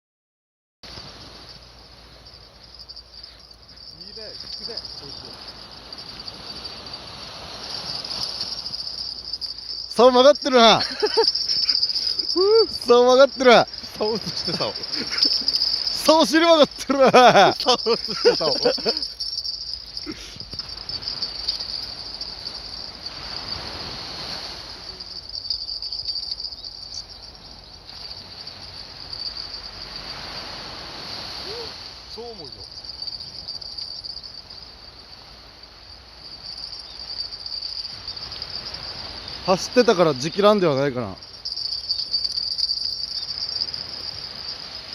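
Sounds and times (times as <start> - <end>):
insects chirring: 0.9 - 44.9.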